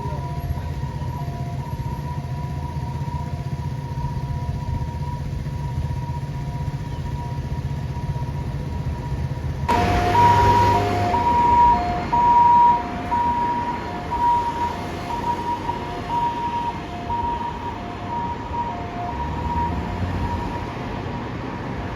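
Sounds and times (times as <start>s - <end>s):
ambulance two-tone siren: 0.0s - 21.9s.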